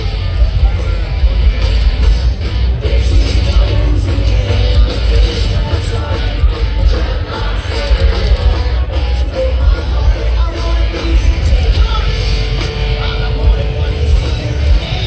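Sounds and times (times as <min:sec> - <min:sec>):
distorted guitars: 0:00.0 - 0:15.0
heavy bass: 0:00.0 - 0:15.0
pounding drums: 0:00.0 - 0:15.0
person singing: 0:02.7 - 0:15.0.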